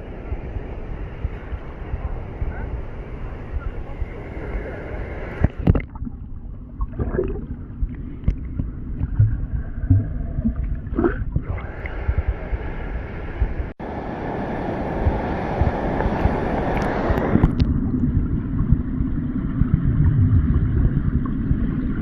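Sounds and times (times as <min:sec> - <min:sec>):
rushing water: 0:00.0 - 0:18.0
wind buffeting microphone: 0:00.0 - 0:18.9.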